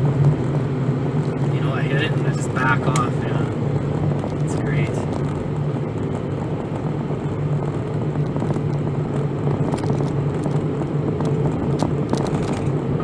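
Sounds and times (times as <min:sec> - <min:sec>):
engine and drivetrain drone: 0:00.0 - 0:13.0
tyre and road noise: 0:00.0 - 0:13.0.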